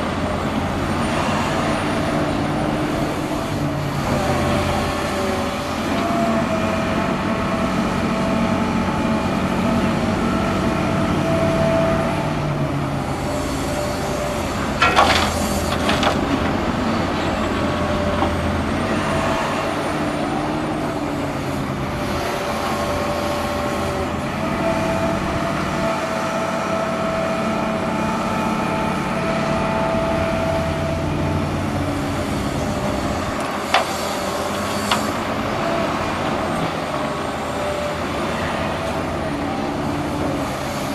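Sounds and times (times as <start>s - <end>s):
excavator engine and hydraulics: 0.0s - 40.9s
hydraulic whine: 0.0s - 40.9s.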